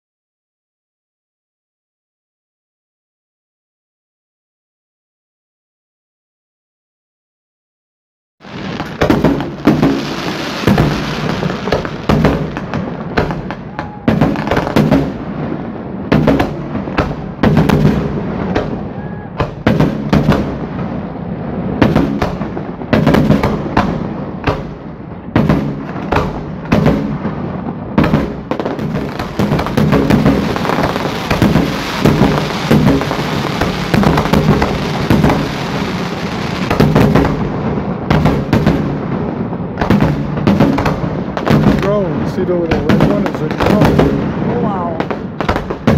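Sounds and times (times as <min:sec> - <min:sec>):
fireworks bangs: 0:08.4 - 0:45.9
fireworks rumble and crackle: 0:08.4 - 0:45.9.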